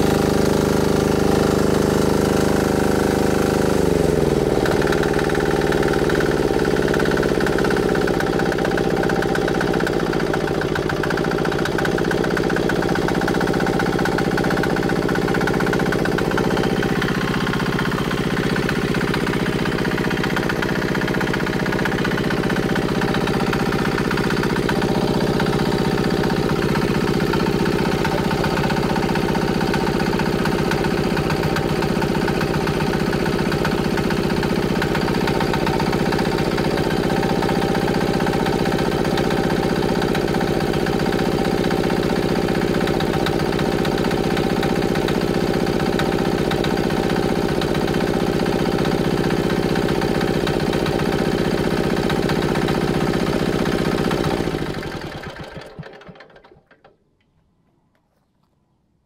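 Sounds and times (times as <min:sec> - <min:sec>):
diesel engine running: 0:00.0 - 0:56.6.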